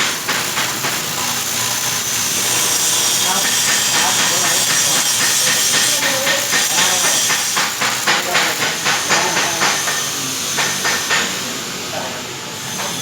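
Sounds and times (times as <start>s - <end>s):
welding arc crackling and hissing: 0.0s - 13.0s.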